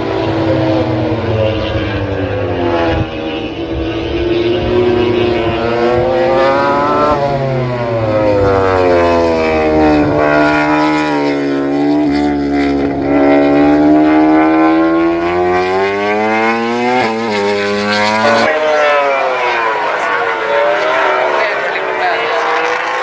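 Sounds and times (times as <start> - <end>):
engine running hard: 0.0 - 23.0.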